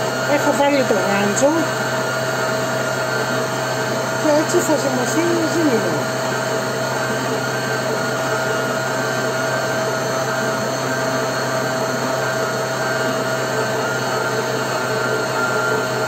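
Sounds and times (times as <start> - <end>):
stand mixer motor running: 0.0 - 16.0.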